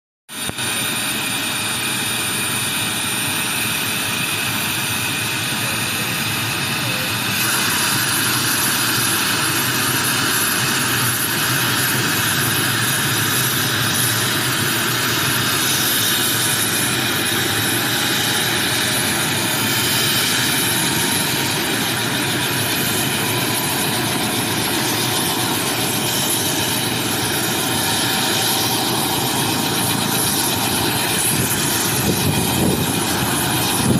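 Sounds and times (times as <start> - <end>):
helicopter engine and rotor: 0.3 - 33.9.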